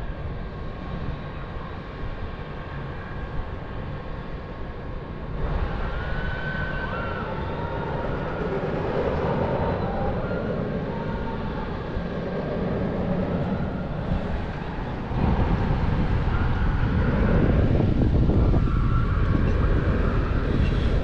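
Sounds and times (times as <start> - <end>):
thrill ride mechanical hum: 0.0 - 21.0
wind rumble on microphone: 0.0 - 21.0.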